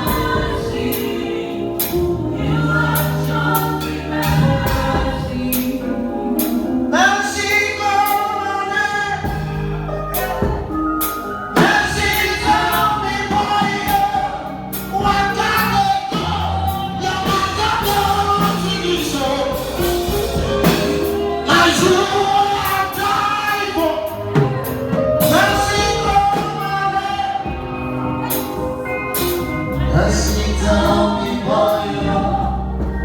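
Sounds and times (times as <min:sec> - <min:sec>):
band with bass: 0:00.0 - 0:33.0
choir singing: 0:00.0 - 0:33.0.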